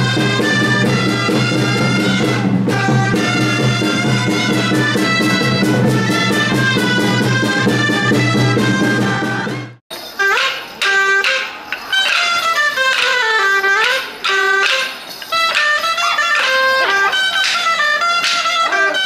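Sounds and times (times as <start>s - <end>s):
drums keeping fast beat: 0.0s - 19.0s
street band playing festive tune: 0.0s - 19.0s.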